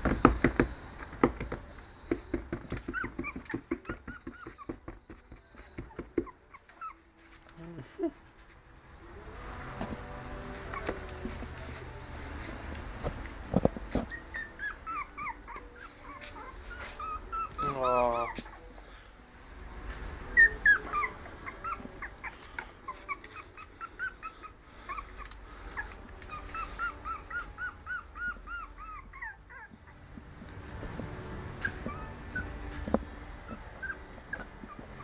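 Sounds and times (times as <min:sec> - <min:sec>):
puppies whimpering and squeaking: 0:00.0 - 0:07.4, 0:10.5 - 0:12.0, 0:13.4 - 0:18.8, 0:19.9 - 0:35.0.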